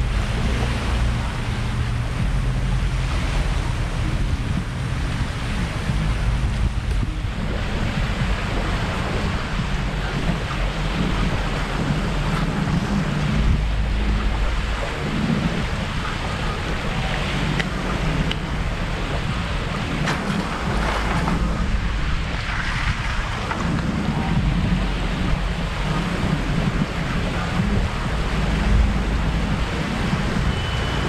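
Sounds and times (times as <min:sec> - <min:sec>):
lake waves washing against shore: 0:00.0 - 0:31.0
wind gusting across microphone: 0:00.0 - 0:31.0.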